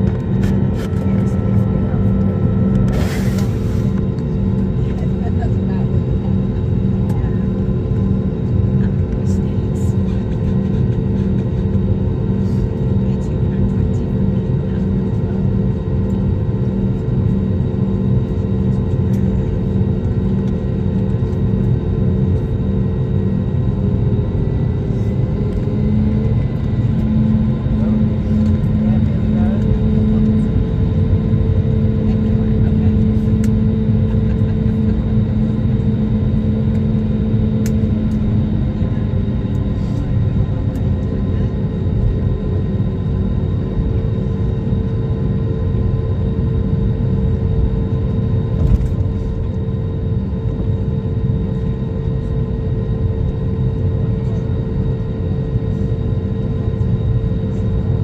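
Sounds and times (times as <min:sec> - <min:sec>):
low hum: 0:00.0 - 0:53.3
airliner cabin drone: 0:00.0 - 0:58.0.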